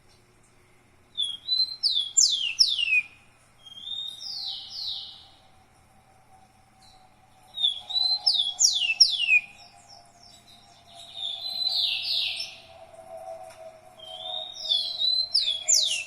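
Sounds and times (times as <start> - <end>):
songbird whistling: 1.1 - 5.5, 6.8 - 16.0.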